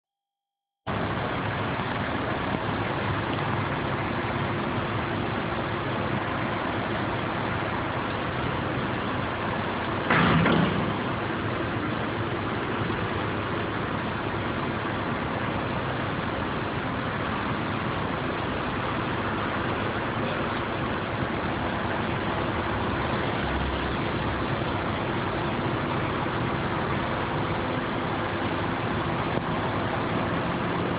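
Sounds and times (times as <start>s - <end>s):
crane engine running: 0.9s - 30.9s.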